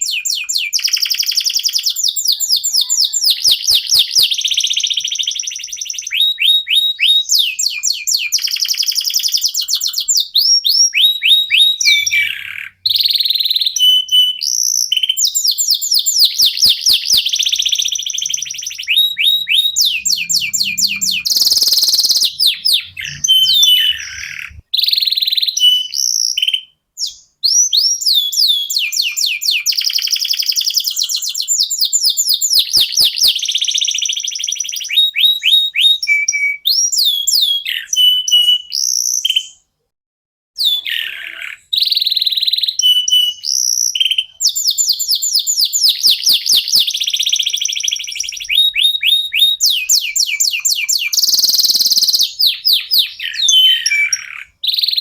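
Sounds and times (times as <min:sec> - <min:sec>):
canary singing trills: 0:00.0 - 0:39.6, 0:40.6 - 0:55.0.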